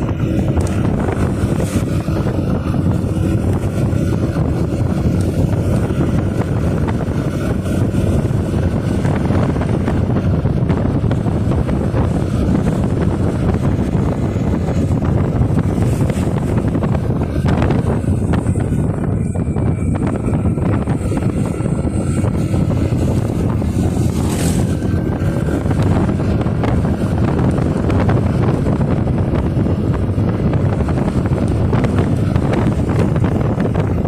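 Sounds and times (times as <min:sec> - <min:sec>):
motorcycle engine cruising: 0:00.0 - 0:34.0
wind rushing over microphone: 0:00.0 - 0:34.0.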